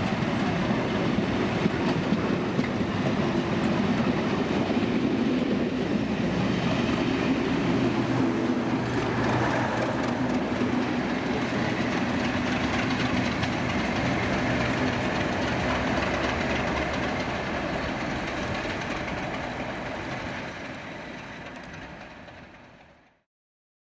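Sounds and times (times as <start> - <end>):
train wheels clacking over rail joints: 0.0 - 23.1
diesel locomotive engine hum: 0.0 - 23.2.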